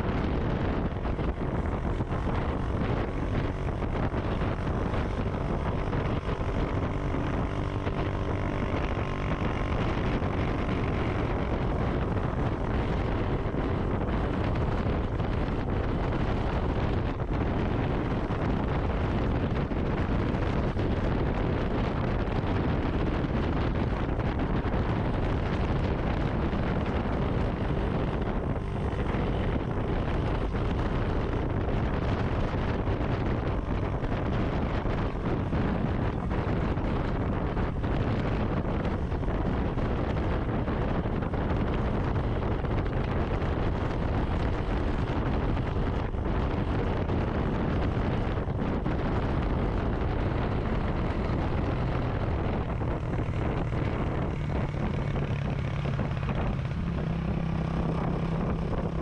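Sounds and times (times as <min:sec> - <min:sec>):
motorcycle engine: 0:00.0 - 0:59.0
road noise: 0:00.0 - 0:59.0
wind buffeting microphone: 0:00.0 - 0:59.0.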